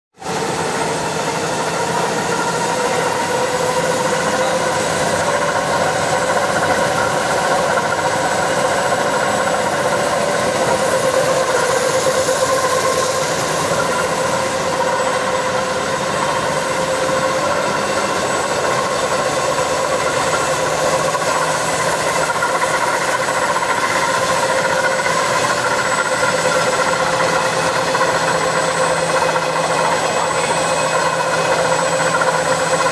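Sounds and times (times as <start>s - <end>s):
machine humming with high whine: 0.2s - 32.9s.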